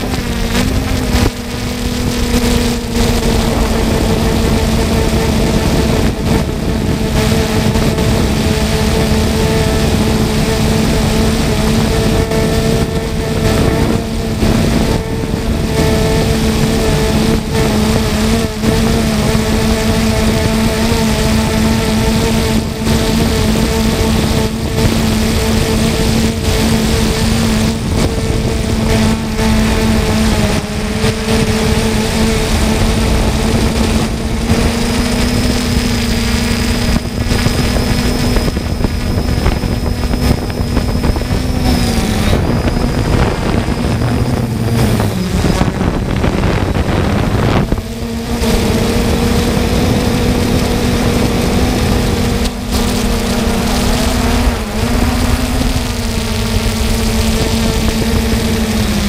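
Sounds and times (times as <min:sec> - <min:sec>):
continuous rushing noise: 0:00.0 - 0:59.0
faint high whine: 0:00.0 - 0:59.0
quadcopter propellers humming: 0:00.0 - 0:59.0.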